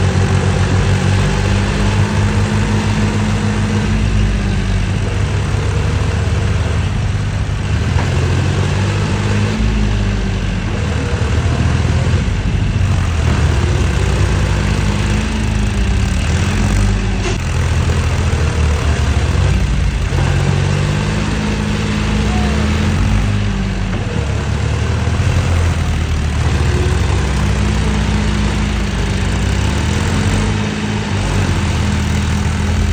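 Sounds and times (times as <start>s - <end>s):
tractor diesel engine revving: 0.0s - 32.9s.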